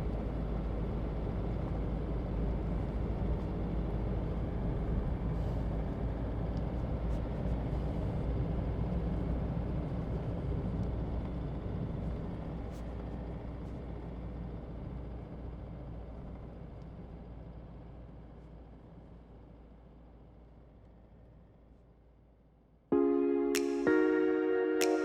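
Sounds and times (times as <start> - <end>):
vehicle engine and road rumble: 0.0 - 22.9.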